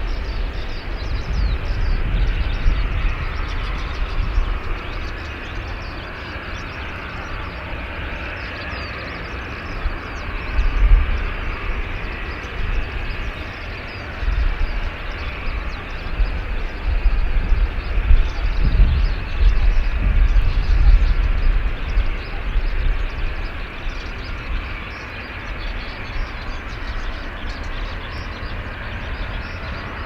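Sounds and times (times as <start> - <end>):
distant jet engine hiss: 0.0 - 30.0
small birds chirping: 0.0 - 30.0
wind gusting on microphone: 0.0 - 30.0.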